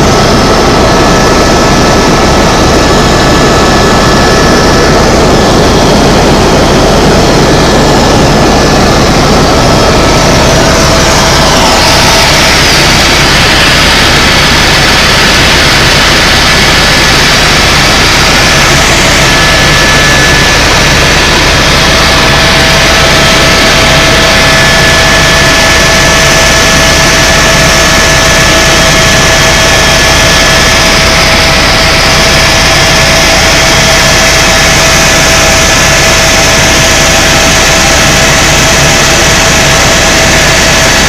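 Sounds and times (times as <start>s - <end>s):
helicopter turbine and rotor noise: 0.0s - 41.0s.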